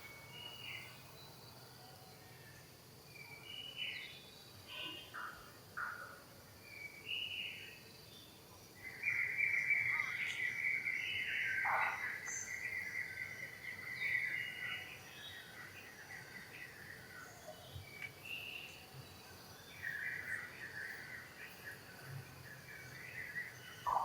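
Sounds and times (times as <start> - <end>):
faint background noise: 0.0 - 24.0.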